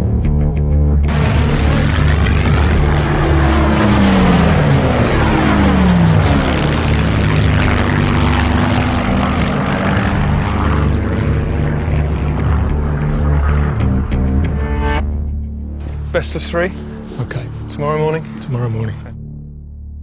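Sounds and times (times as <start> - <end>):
aircraft engine and propeller passing: 1.1 - 19.1.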